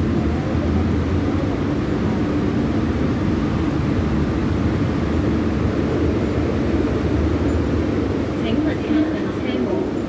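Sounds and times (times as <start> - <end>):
metro train rumble and hum: 0.0 - 10.0.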